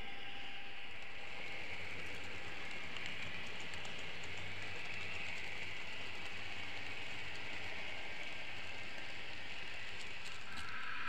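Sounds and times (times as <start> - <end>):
low hum: 0.0 - 11.0
model train whirring hiss: 0.0 - 11.0.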